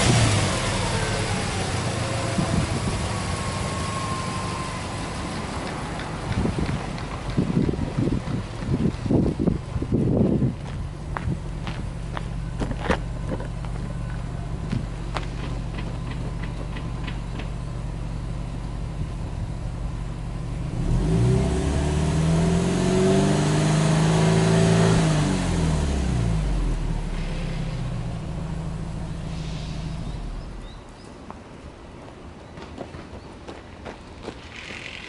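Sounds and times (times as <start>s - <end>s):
car engine idling and revving: 0.0s - 30.8s.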